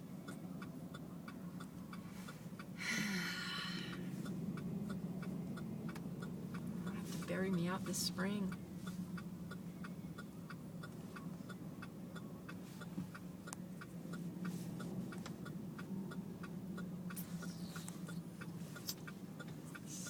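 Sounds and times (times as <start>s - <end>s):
engine and heater hum: 0.0s - 20.0s.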